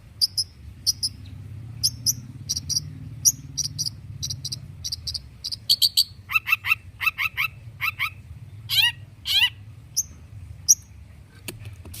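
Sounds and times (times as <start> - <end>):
bird singing: 0.2 - 11.0.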